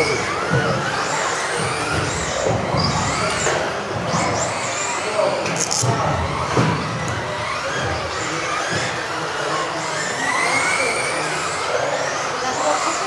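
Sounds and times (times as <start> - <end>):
electric rc car motors whining: 0.0 - 13.0.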